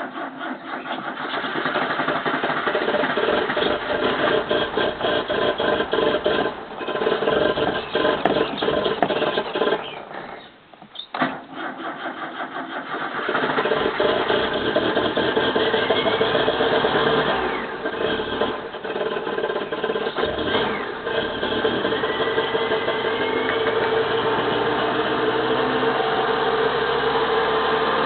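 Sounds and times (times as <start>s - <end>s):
car engine cranking and starting: 0.0s - 28.0s.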